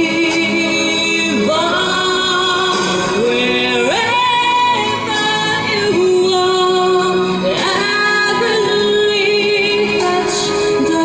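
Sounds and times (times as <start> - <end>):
musical accompaniment: 0.0 - 11.0
woman singing into microphone: 0.0 - 11.0.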